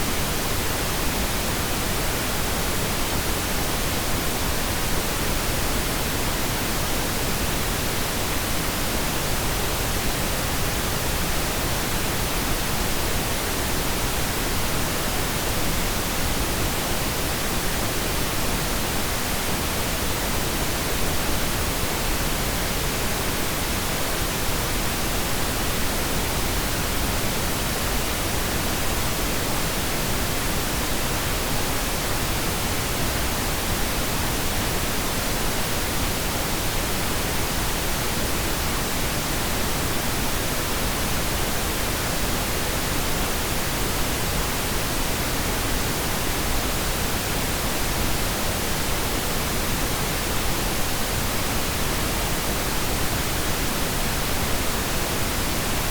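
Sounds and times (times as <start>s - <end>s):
steady pink noise hiss: 0.0s - 55.9s.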